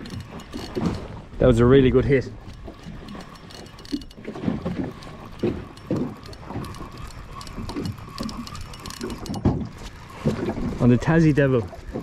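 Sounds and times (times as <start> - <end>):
water slapping against wooden boat: 0.0 - 12.0.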